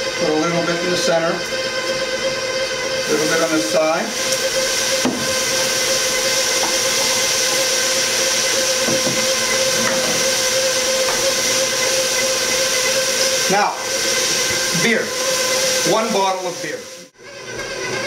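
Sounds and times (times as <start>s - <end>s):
stand mixer motor whirring: 0.0s - 18.0s.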